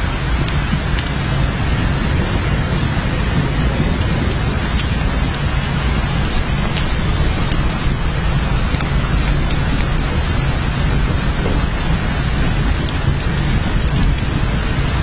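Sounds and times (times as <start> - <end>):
deep low rumble: 0.0 - 15.0
heavy rain: 0.0 - 15.0.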